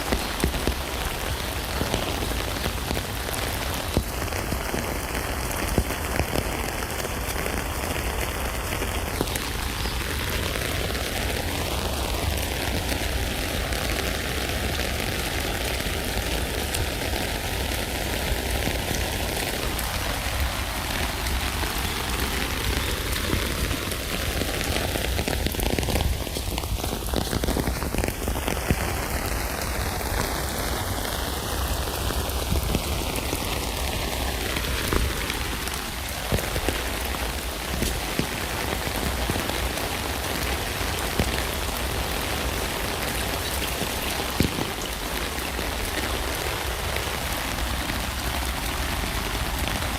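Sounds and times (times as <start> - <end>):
rain pattering on a tent: 0.0 - 49.9.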